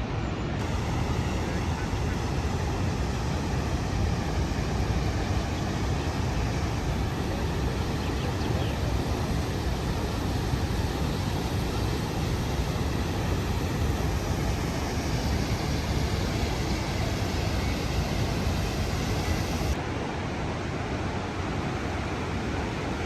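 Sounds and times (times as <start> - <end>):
waterfall rushing: 0.6 - 19.8.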